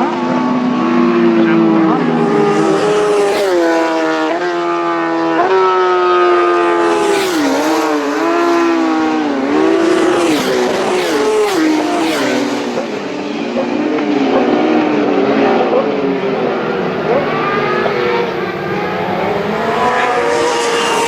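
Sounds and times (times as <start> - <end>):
racing motorcycles at high revs: 0.0 - 21.0.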